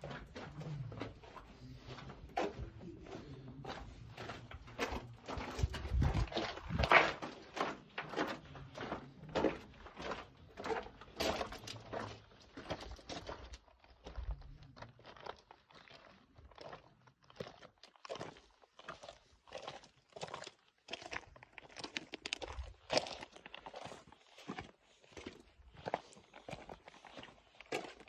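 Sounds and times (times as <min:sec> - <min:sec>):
footsteps crunching on stony trail: 0:00.0 - 0:28.0.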